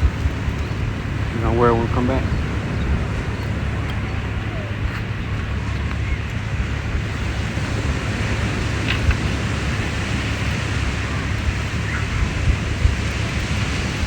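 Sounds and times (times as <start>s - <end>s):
waves washing on beach: 0.0s - 14.0s
wind rumble on microphone: 0.0s - 14.0s.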